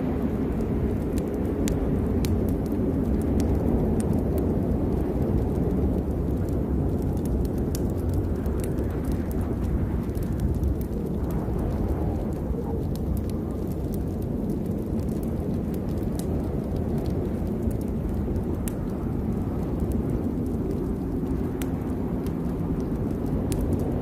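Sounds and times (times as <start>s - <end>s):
rain rumble: 0.0s - 24.0s
raindrops ticking: 0.0s - 24.0s.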